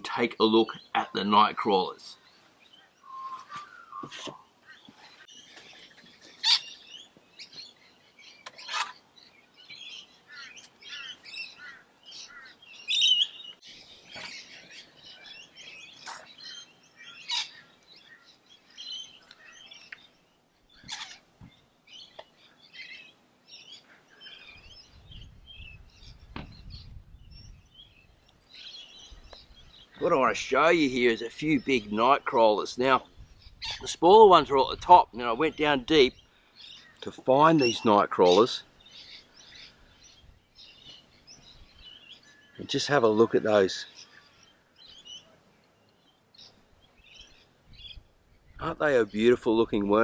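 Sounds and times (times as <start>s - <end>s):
birds chirping and calling: 0.0s - 50.0s.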